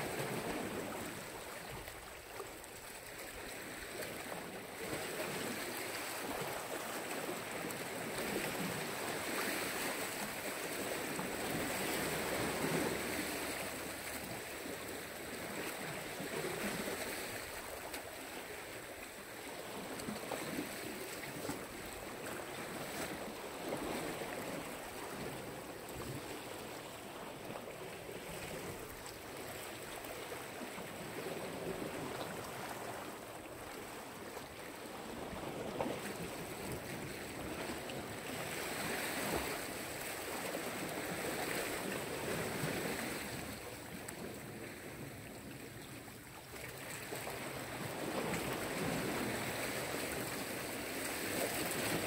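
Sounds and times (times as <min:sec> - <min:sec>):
sea waves washing ashore: 0:00.0 - 0:52.0.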